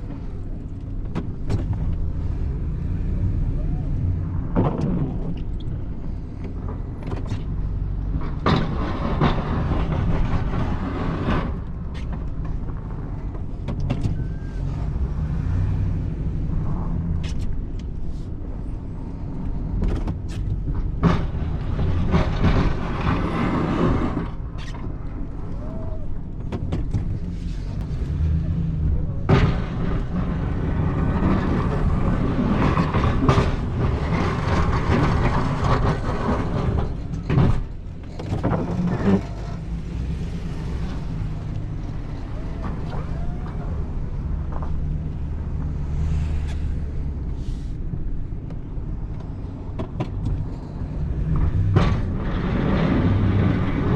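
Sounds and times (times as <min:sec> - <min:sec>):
clunks and knocks: 0:00.0 - 0:02.3, 0:04.3 - 0:15.2, 0:19.4 - 0:53.9
plow scraping: 0:00.0 - 0:53.9
truck engine rumbling: 0:00.0 - 0:53.9.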